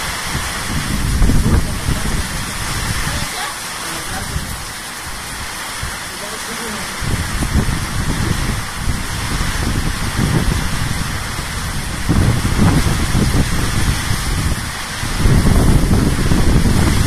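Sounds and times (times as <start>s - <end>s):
wind buffeting microphone: 0.0s - 6.1s, 6.9s - 17.0s
heavy rain: 0.0s - 17.0s
strong wind gusts: 0.0s - 17.0s.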